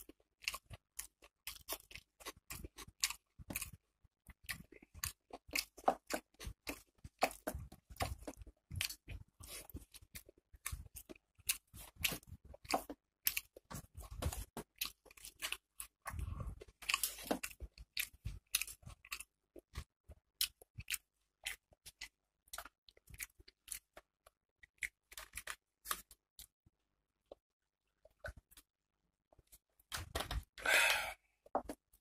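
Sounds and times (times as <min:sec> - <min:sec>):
person chewing wet clicks: 0:00.0 - 0:26.6.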